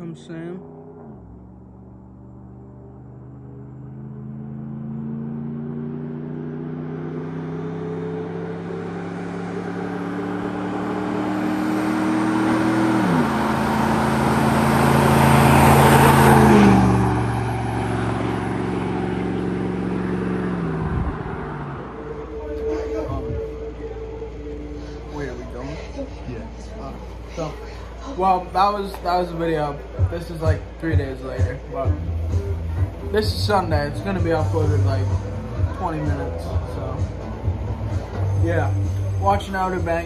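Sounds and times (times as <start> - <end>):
pickup truck accelerating: 0.0 - 40.0.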